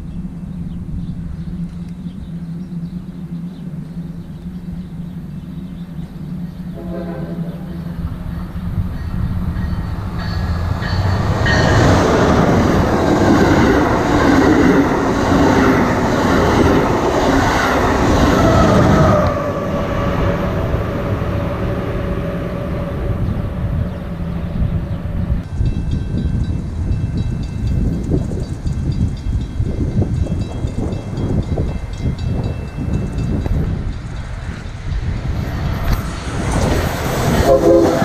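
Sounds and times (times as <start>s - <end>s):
high-speed train rushing past: 0.0s - 38.0s.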